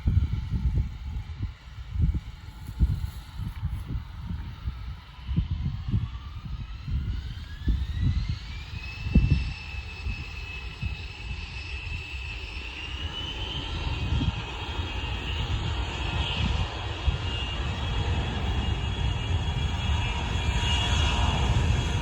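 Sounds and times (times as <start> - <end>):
jet engines spooling up: 0.0 - 22.0
wind buffeting microphone: 0.0 - 22.0.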